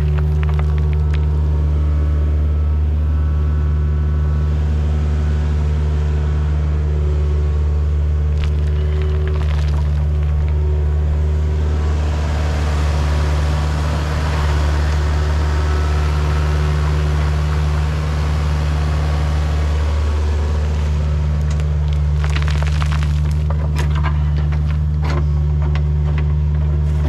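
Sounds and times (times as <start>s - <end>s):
heavy machine engine droning: 0.0s - 27.0s.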